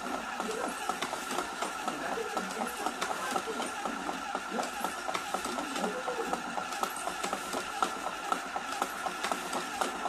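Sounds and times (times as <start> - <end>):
machine whirring: 0.0 - 10.0.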